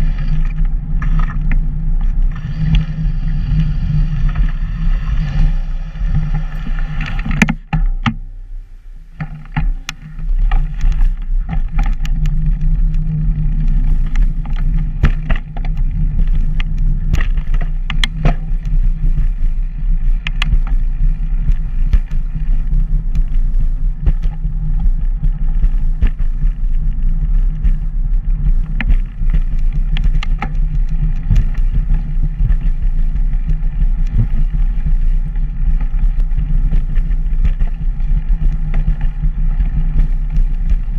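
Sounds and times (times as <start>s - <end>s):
small clicks and rattles: 0.0s - 8.2s, 9.2s - 40.9s
wind rumbling over microphone: 0.0s - 40.9s.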